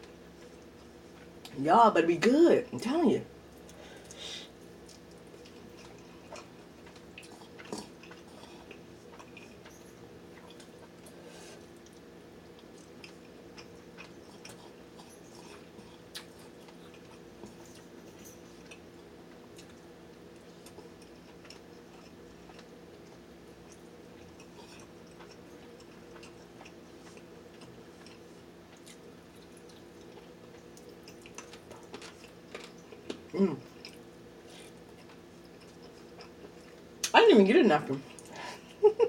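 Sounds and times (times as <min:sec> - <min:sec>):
quiet chewing: 0:00.0 - 0:01.6, 0:03.4 - 0:37.1, 0:38.0 - 0:38.8
low room hum: 0:00.0 - 0:39.0.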